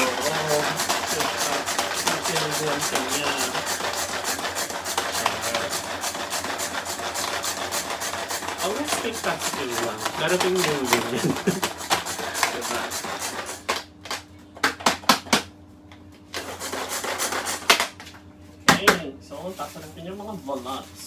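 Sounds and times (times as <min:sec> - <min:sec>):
manual food chopper clicking and whirring: 0:00.0 - 0:15.5, 0:16.3 - 0:18.2.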